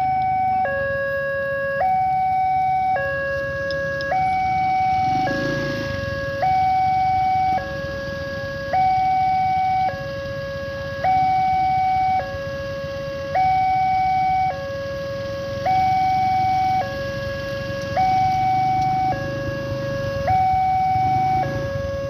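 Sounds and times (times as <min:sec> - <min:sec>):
two-tone crossing alarm: 0:00.0 - 0:22.0.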